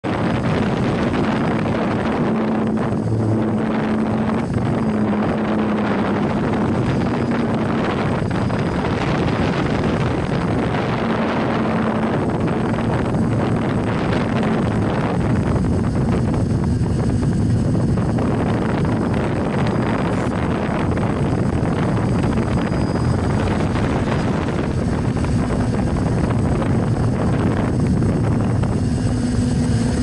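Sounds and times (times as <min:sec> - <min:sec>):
drone propellers rushing: 0:00.0 - 0:30.0
low motor hum: 0:00.0 - 0:30.0.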